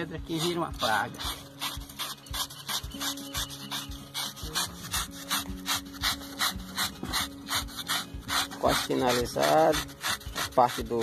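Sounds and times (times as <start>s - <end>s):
knife scraping pig hide: 0.0s - 11.0s.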